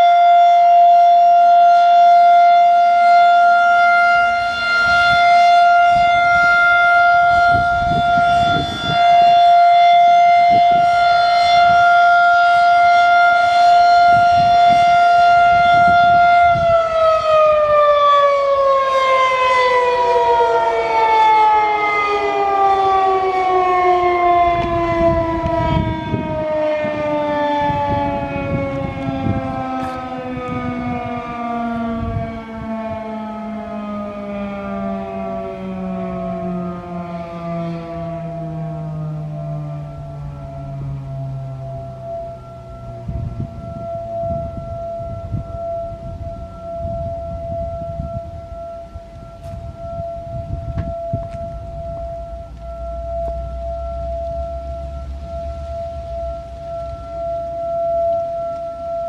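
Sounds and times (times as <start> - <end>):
second steady siren tone: 0.0 - 59.0
warning siren winding down: 0.0 - 59.0.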